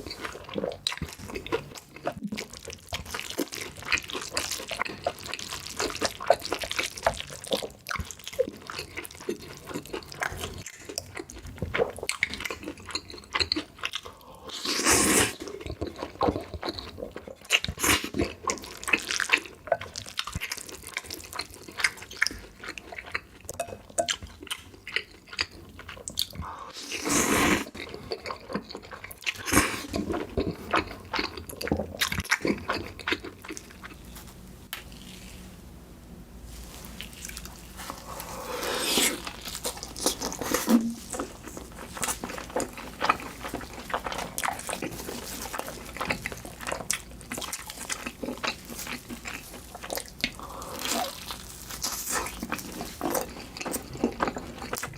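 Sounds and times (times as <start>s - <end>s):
wet chewing and smacking: 0.0s - 14.2s, 15.4s - 26.5s, 27.7s - 35.4s, 37.0s - 54.9s.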